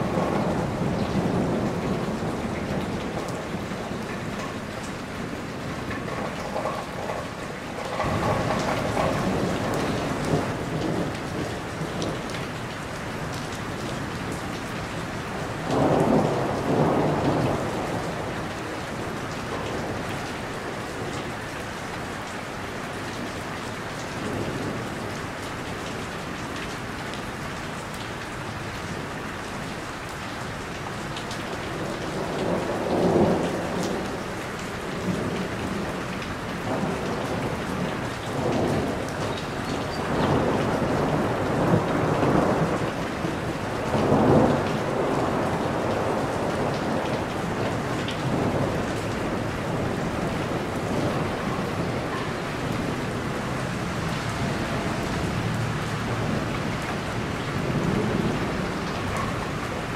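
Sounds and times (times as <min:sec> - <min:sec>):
heavy rain on a roof: 0:00.0 - 0:59.9.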